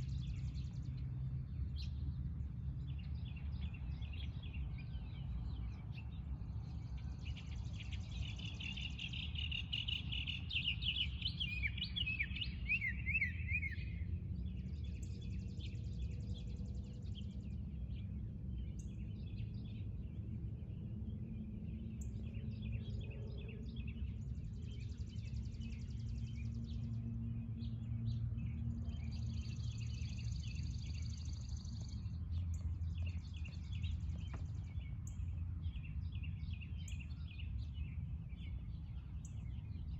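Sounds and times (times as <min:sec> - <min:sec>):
steady low rumble: 0:00.0 - 0:11.4, 0:13.8 - 0:39.9
wild birds chirping: 0:00.0 - 0:39.9.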